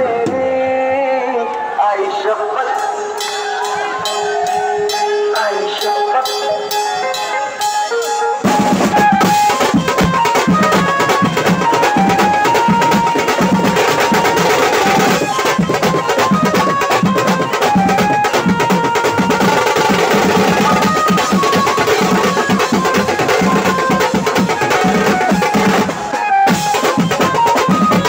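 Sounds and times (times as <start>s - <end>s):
drum band playing: 2.8s - 28.0s.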